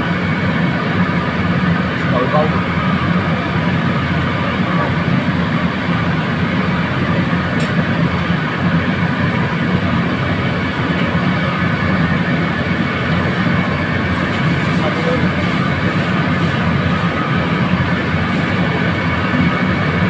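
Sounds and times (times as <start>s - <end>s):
gas burners and exhaust hood roar: 0.0s - 20.0s.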